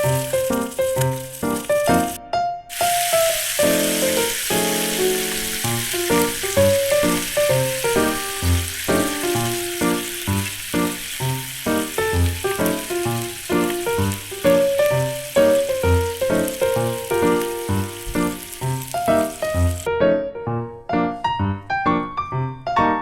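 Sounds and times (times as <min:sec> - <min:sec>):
food sizzling on a griddle: 0:00.0 - 0:19.9.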